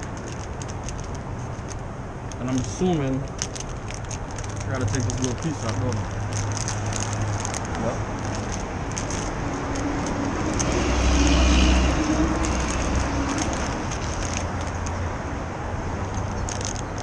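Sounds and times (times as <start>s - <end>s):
small ticks and clicks: 0.0s - 15.0s, 16.0s - 17.0s
motor vehicle passing: 0.0s - 17.0s
road noise: 0.0s - 17.0s.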